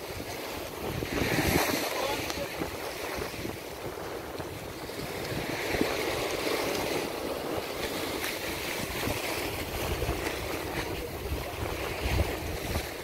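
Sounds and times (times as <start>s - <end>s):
waves breaking on rocks: 0.0s - 13.0s
wind buffeting microphone: 0.0s - 13.0s.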